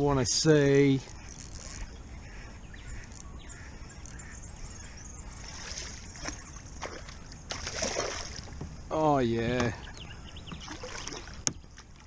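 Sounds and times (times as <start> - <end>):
water sloshing around kayak: 0.1 - 12.0
faint bird chirps: 1.0 - 8.0, 8.8 - 11.8.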